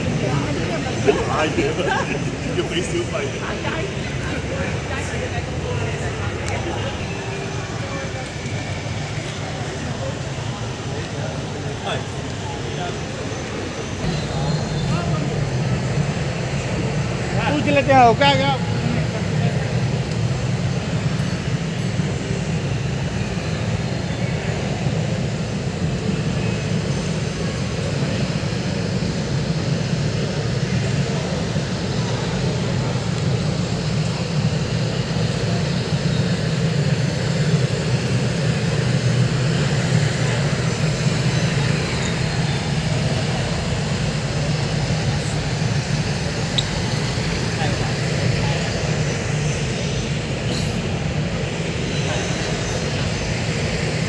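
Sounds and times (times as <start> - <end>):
airport terminal hall rumble: 0.0 - 54.0.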